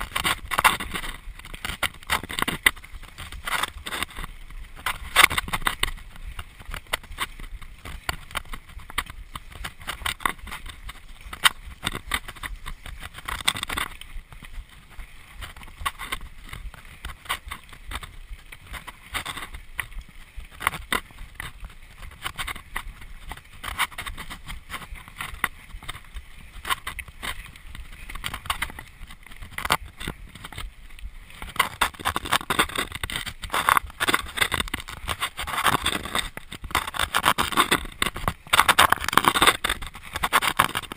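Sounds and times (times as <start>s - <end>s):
bike rattling over bumps: 0.0s - 40.9s.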